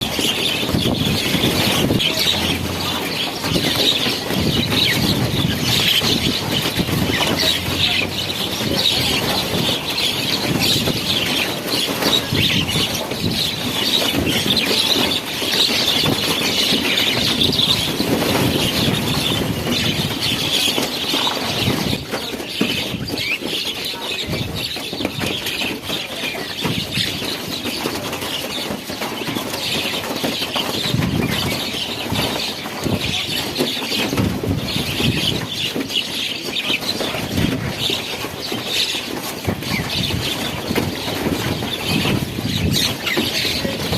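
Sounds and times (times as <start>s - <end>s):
flock of birds chattering: 0.0s - 43.9s
rush of many wings: 0.0s - 43.9s.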